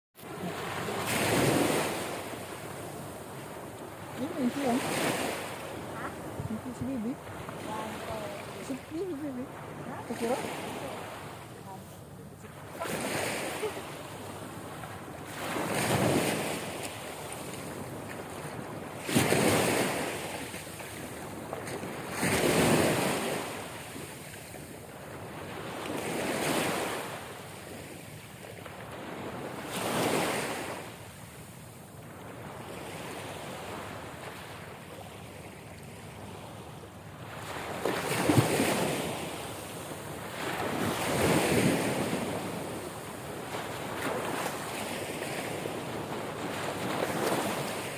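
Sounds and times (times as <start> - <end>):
sea waves washing in: 0.2 - 47.9.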